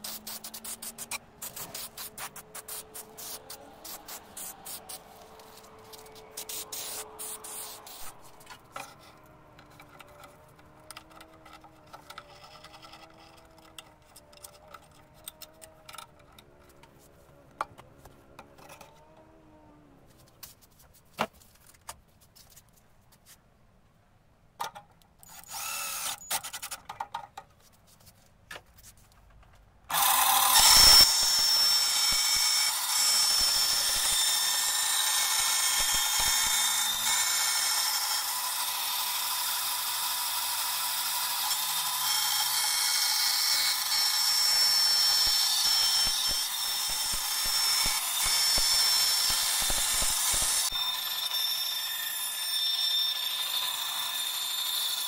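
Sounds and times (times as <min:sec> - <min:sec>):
band saw whining: 0:00.0 - 0:20.0, 0:29.9 - 0:55.0.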